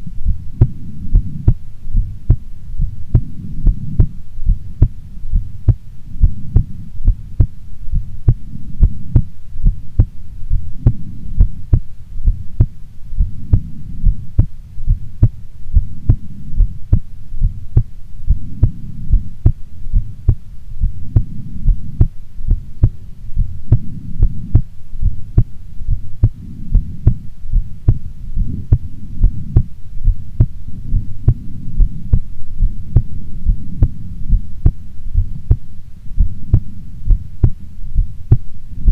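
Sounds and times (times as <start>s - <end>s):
low rumble: 0.0s - 38.9s
heartbeat thumps: 0.2s - 38.9s.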